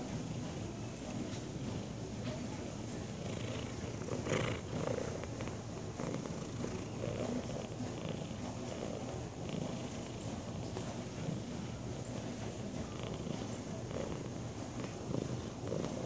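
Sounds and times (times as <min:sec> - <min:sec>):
cat purring: 0:01.2 - 0:16.0.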